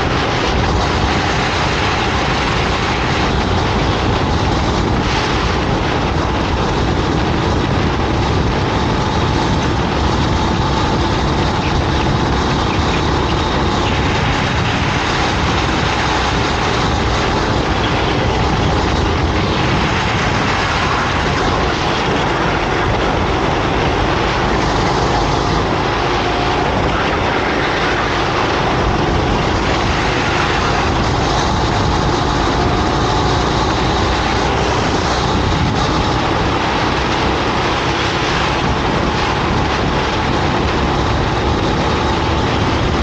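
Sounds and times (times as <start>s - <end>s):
racing kart engine: 0.0s - 43.0s.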